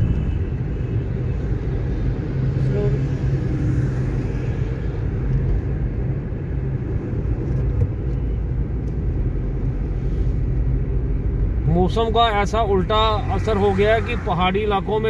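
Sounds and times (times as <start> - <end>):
car driving on highway: 0.0 - 15.0.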